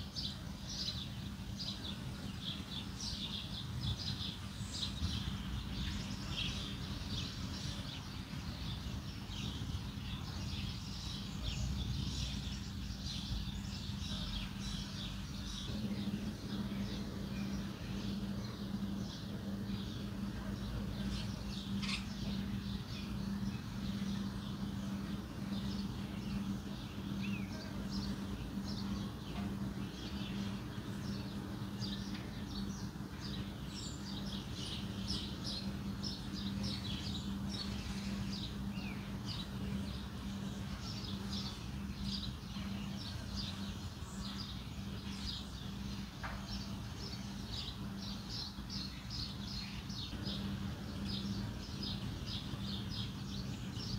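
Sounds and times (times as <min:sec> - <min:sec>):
birds chirping: 0:00.0 - 0:53.9
low hum and rumble: 0:00.0 - 0:53.9.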